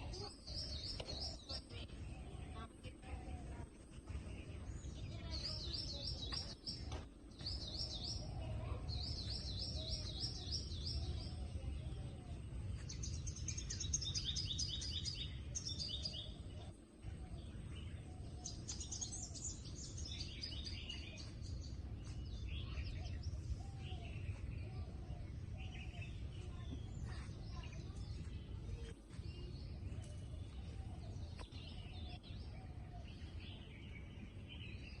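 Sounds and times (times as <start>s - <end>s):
birds singing trills: 0.0s - 35.0s
steady low rumble: 0.0s - 35.0s.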